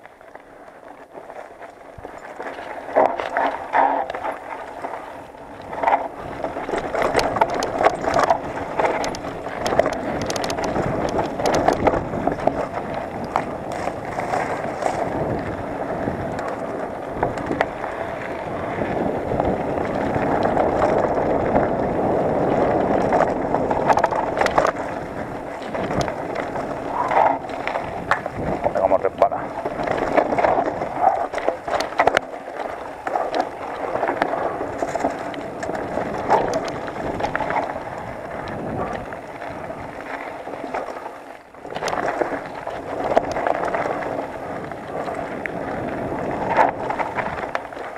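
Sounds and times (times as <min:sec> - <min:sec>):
bike rattling and knocking: 0:00.0 - 0:47.9
tyres rushing over dirt and stones: 0:01.0 - 0:47.9.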